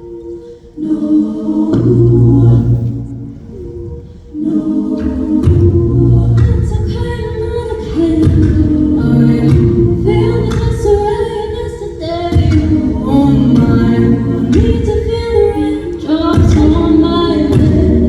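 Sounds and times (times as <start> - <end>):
a cappella group singing: 0.0 - 18.0.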